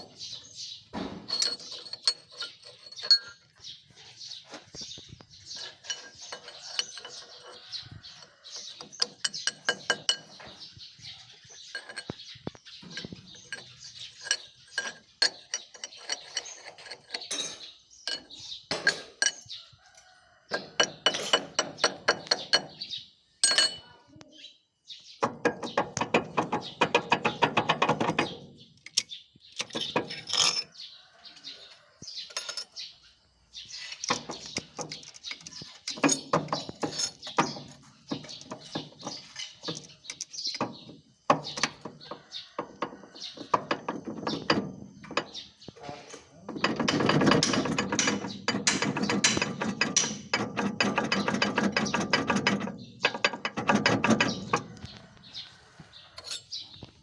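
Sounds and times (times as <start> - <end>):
tractor transmission clattering: 0.0 - 19.5, 20.5 - 23.9, 25.2 - 30.7, 33.9 - 55.5.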